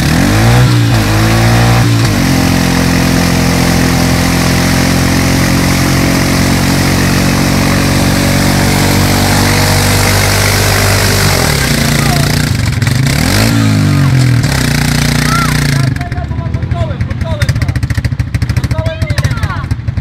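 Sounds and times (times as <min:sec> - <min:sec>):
quad engine revving hard: 0:00.0 - 0:20.0.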